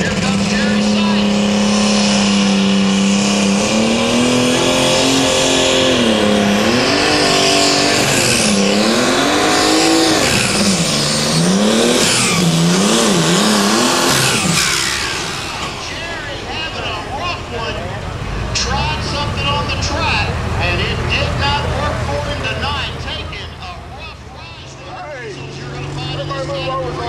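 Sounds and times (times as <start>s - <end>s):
high whine: 0.0s - 26.6s
tractor engine at full throttle: 0.0s - 27.0s.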